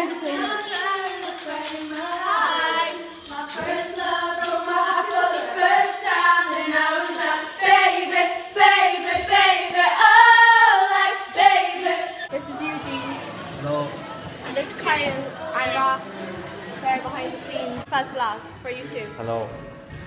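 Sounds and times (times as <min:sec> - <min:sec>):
girls singing together: 0:00.0 - 0:13.2, 0:14.5 - 0:17.8.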